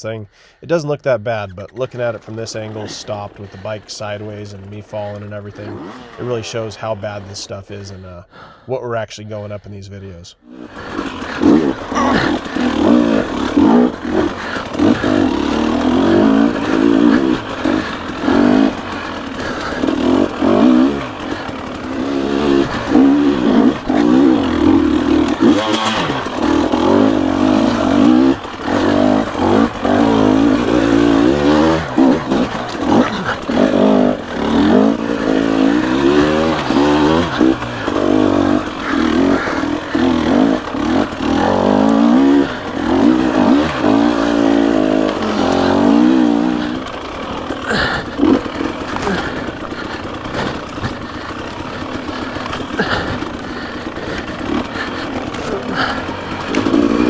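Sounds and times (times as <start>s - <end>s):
dirt bike engine revving: 1.3s - 8.5s, 10.4s - 57.0s.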